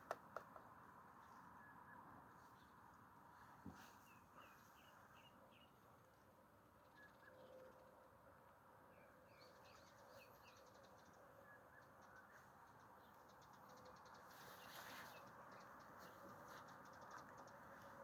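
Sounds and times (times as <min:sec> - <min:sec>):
small birds chirping: 0:00.0 - 0:06.2, 0:08.9 - 0:18.0.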